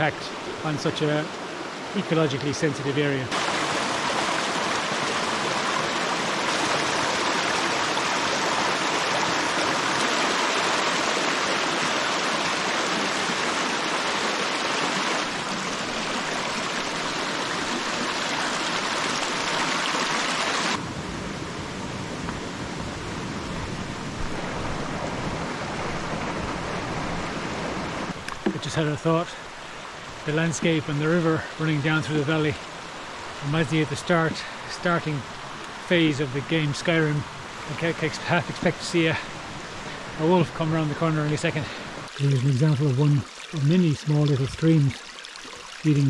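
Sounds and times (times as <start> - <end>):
stream rushing over rocks: 0.0 - 46.0.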